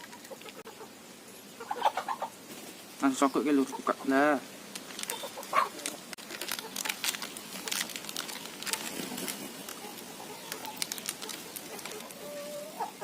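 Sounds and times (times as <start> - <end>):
rustling of feathers: 1.8 - 13.0.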